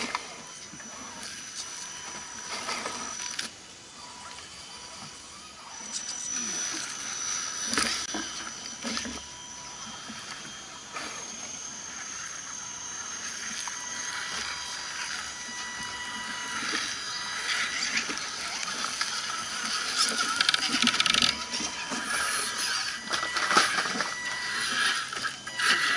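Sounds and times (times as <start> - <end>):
electric motors whining: 0.0 - 25.9.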